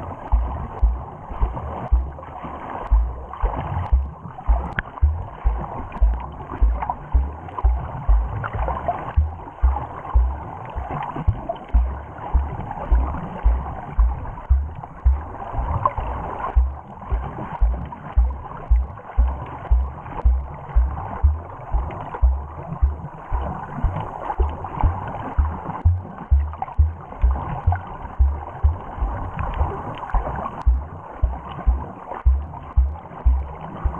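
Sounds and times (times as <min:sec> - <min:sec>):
muffled rushing water: 0:00.0 - 0:33.9
rhythmic low underwater thumping: 0:00.0 - 0:33.9.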